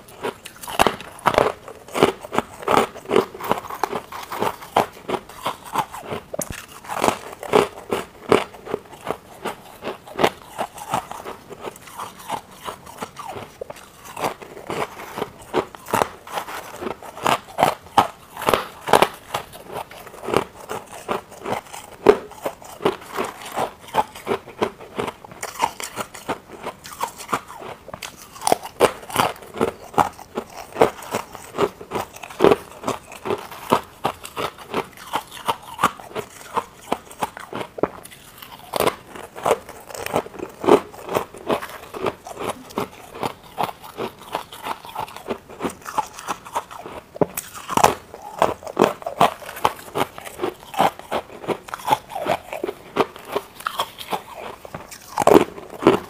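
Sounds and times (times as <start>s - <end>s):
chewing crunchy ice: 0.0s - 56.0s.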